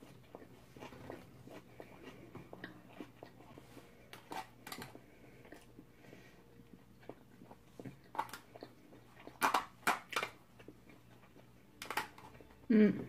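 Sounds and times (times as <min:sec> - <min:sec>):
close-up chewing: 0:00.0 - 0:12.7.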